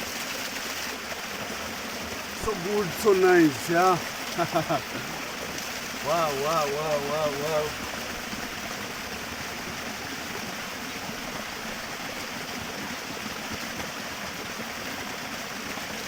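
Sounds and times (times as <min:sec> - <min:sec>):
waterfall splashing: 0:00.0 - 0:16.0.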